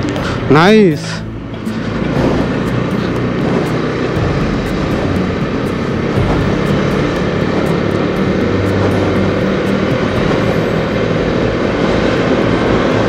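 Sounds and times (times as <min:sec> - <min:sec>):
motorcycle engine running: 0:00.0 - 0:13.0
road noise: 0:00.0 - 0:13.0
wind: 0:00.0 - 0:13.0.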